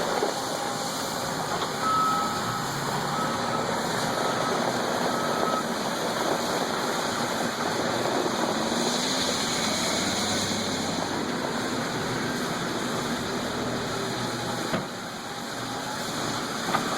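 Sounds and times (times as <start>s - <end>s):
engine noise: 0.0s - 16.9s.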